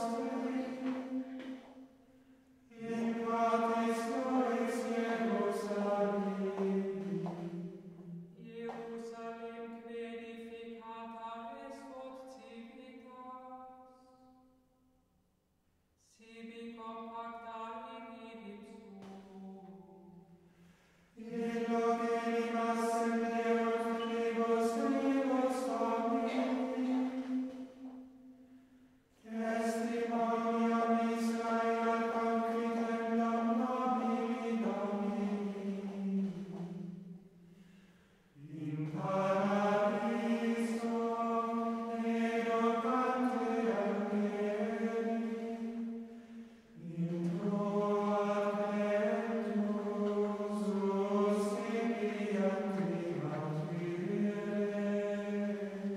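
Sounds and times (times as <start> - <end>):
chant-like singing: 0.0 - 1.8, 2.6 - 14.1, 16.2 - 20.2, 21.1 - 28.1, 29.2 - 55.9.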